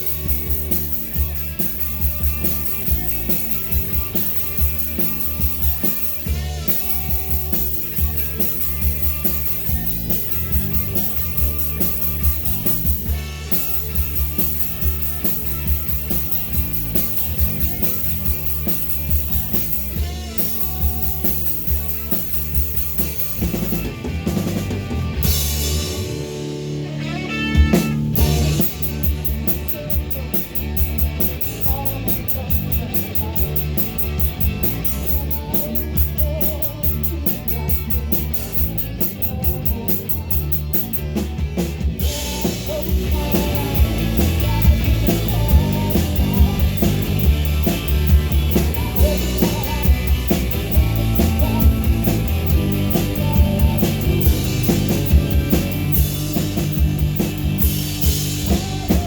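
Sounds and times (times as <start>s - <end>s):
fast cymbal beat: 0.0s - 59.0s
live rock band playing: 0.0s - 59.0s.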